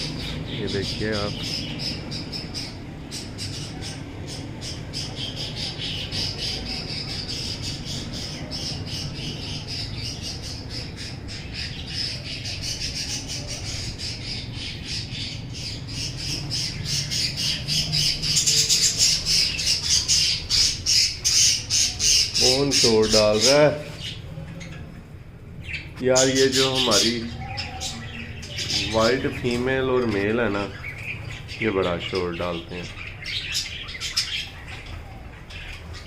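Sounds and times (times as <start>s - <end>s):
budgerigars chattering and squawking: 0.0s - 25.0s, 25.6s - 36.0s.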